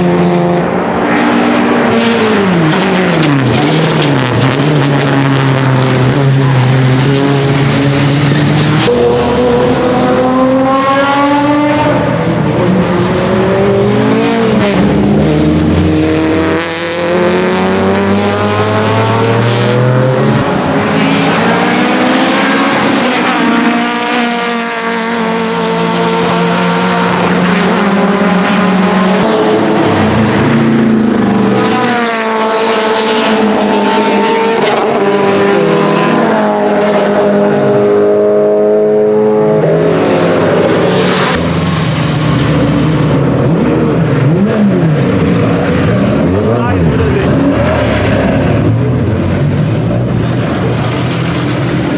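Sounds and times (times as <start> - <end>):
racing car engine revving: 0.0 - 51.9.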